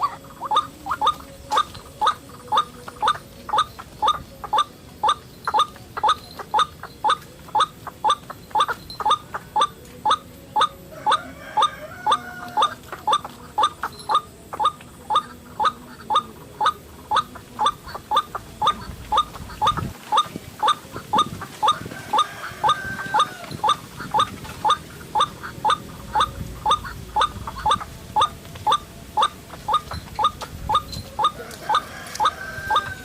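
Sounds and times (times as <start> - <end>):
waterhen croaking calls: 0.0 - 33.0.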